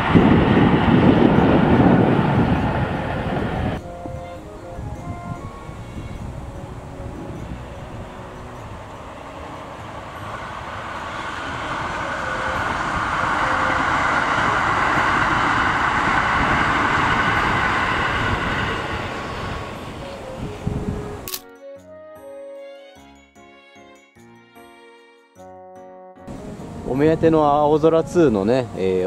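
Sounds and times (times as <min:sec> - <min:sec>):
electric train passing: 0:00.0 - 0:21.4, 0:26.3 - 0:29.0.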